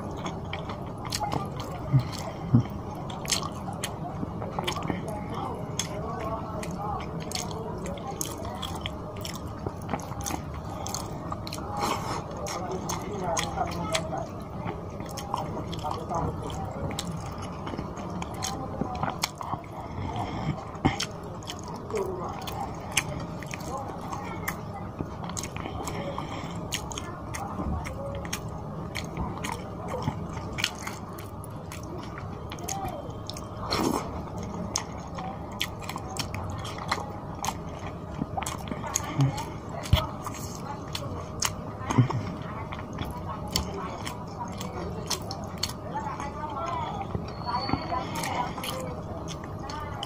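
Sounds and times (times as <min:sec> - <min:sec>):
chewing food: 0:00.0 - 0:50.0.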